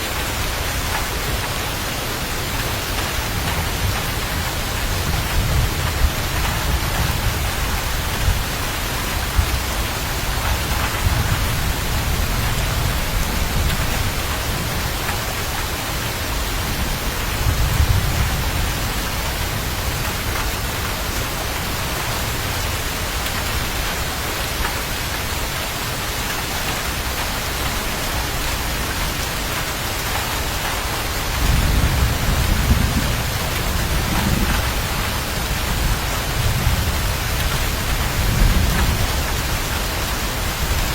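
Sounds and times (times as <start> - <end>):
steady rain falling: 0.0 - 40.9
thunder rumbling: 2.3 - 40.9.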